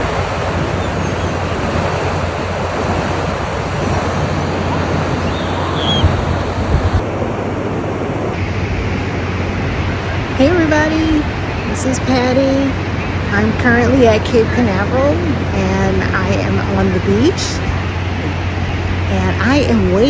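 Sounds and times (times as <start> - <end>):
ocean surf on beach: 0.0 - 20.0
wind on microphone: 0.0 - 20.0.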